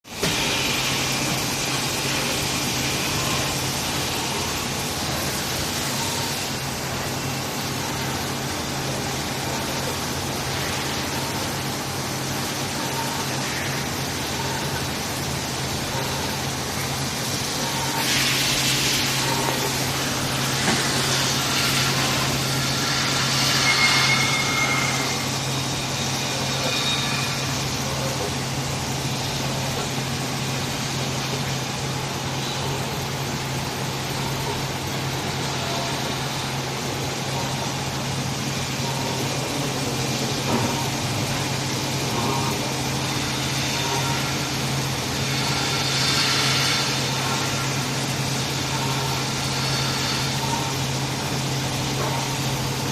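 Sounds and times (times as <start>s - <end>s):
factory machinery humming: 0.1s - 52.9s.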